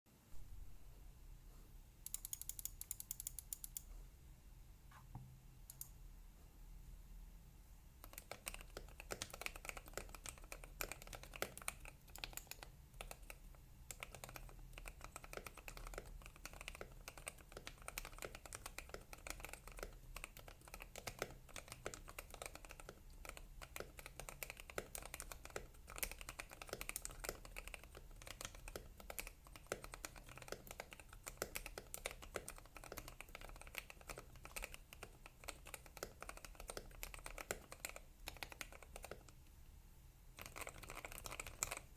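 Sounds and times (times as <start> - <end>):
mechanical keyboard typing: 2.1 - 3.9, 8.0 - 39.4, 40.3 - 41.9.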